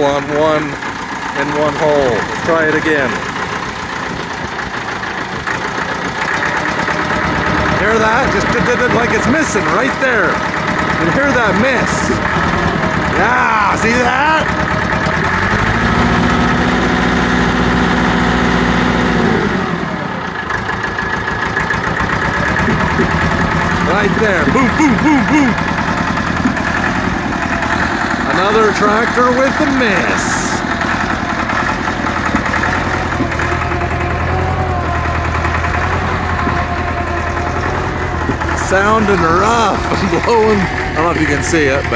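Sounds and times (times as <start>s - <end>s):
tractor diesel engine misfiring: 0.0s - 41.9s.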